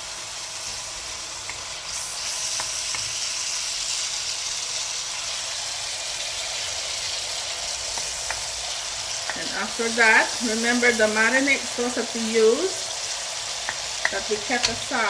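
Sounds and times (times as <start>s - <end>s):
onion and garlic sizzling in oil: 0.0s - 15.0s.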